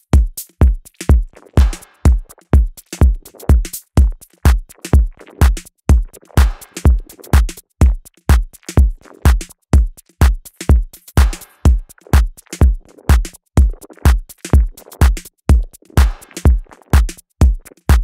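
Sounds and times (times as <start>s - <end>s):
drum machine kick: 0.0s - 18.0s
hi-hats ticking: 0.0s - 18.0s.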